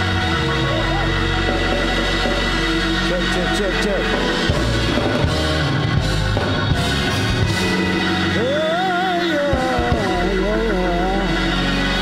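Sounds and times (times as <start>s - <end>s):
instrumental backing with drums: 0.0s - 12.0s.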